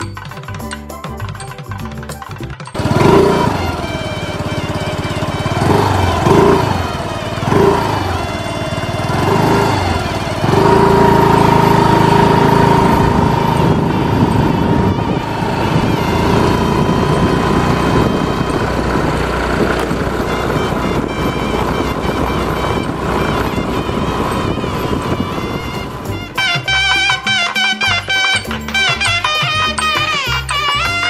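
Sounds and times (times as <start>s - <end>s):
motor scooter engine running: 0.0s - 31.0s.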